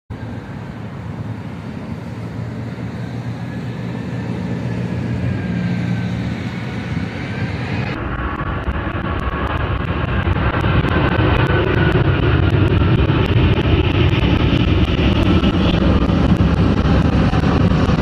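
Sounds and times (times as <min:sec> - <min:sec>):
jet airliner rumble and whine: 0:00.1 - 0:18.0.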